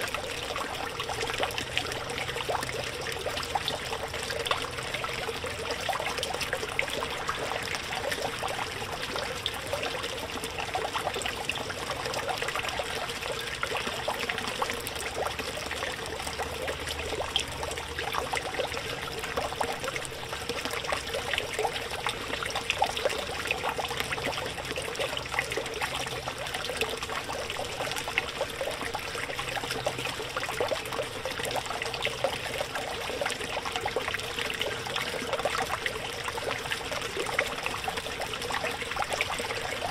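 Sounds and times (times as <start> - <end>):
faint steady hum: 0.0 - 39.9
fountain water splashing: 0.0 - 39.9.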